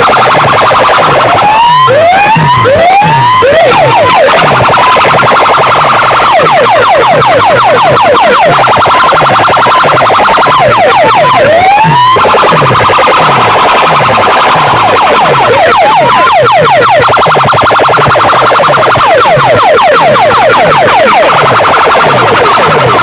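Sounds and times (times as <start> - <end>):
electronic siren effects: 0.0 - 23.0
rising siren whoop: 0.0 - 23.0.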